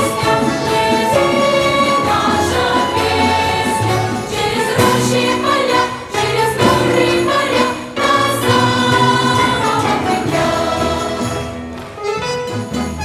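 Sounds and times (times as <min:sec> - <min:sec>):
children's choir singing: 0:00.0 - 0:11.7
instrumental accompaniment: 0:00.0 - 0:13.0.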